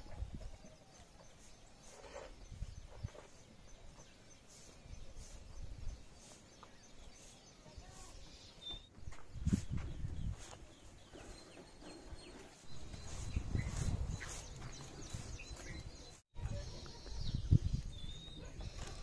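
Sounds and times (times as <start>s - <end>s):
bird chirp: 0.0s - 19.0s.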